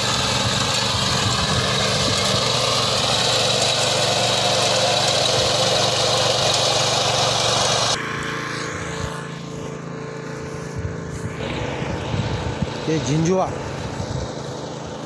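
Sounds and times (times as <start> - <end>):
cutter bar mowing grass: 0.0 - 15.0
petrol engine running: 0.0 - 15.0.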